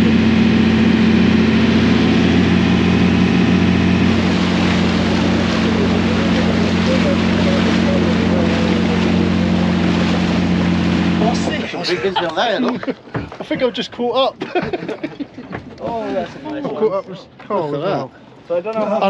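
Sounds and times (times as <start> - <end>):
boat engine running: 0.0 - 19.0
water rushing along hull: 0.0 - 19.0.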